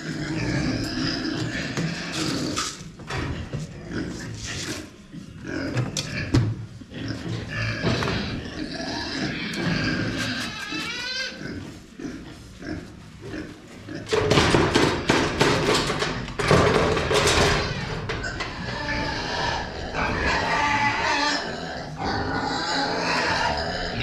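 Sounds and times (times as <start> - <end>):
pigs squealing and grunting: 0.0 - 24.0.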